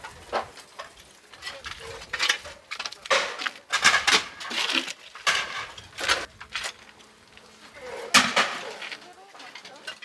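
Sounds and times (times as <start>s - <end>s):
rubble clattering and scraping: 0.0s - 10.0s.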